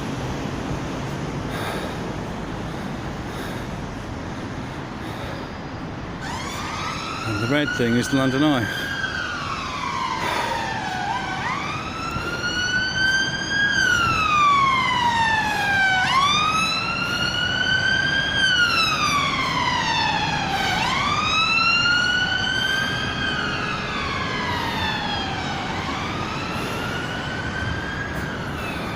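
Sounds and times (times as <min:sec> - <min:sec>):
emergency siren wailing: 0:00.0 - 0:28.9.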